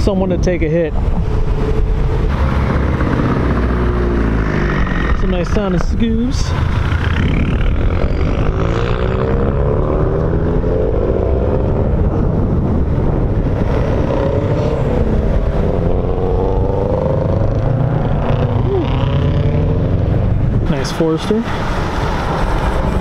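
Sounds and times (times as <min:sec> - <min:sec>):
cars driving past slowly: 0:00.7 - 0:23.0.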